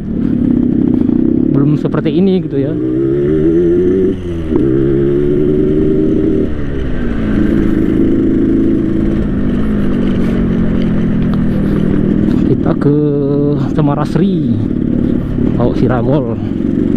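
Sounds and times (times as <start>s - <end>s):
motorcycle two-stroke engine revving: 0.0s - 16.9s.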